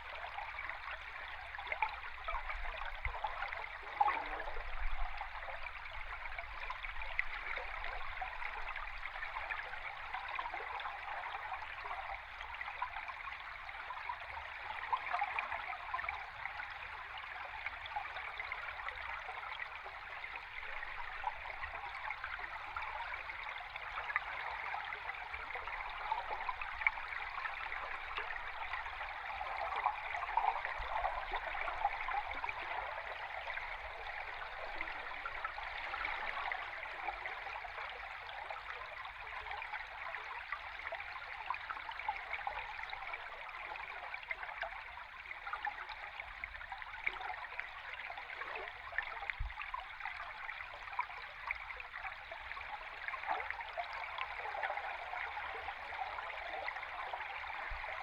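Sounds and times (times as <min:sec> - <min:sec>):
underwater flowing water: 0:00.0 - 0:58.0.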